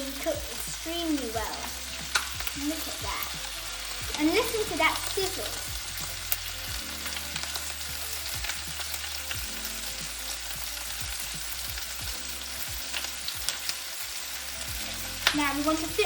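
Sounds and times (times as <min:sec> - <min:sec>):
chicken sizzling in oil: 0:00.0 - 0:16.0
spitting fat crackles: 0:00.0 - 0:16.0.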